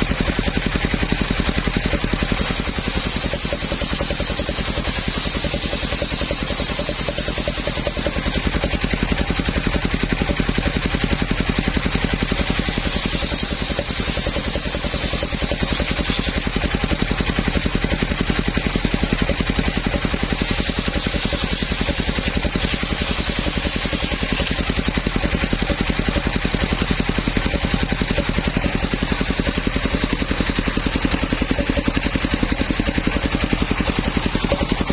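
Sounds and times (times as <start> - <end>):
engine-driven sawmill running: 0.0 - 34.9.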